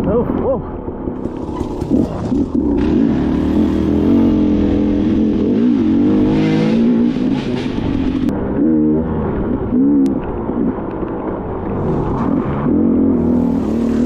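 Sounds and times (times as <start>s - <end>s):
dirt bike engine revving: 1.0s - 10.8s, 11.7s - 14.0s.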